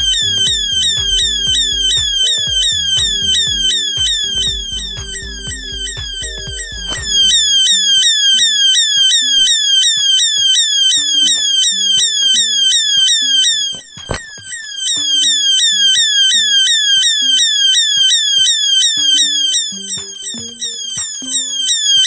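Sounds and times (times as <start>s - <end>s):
warbling electronic siren: 0.0s - 22.0s.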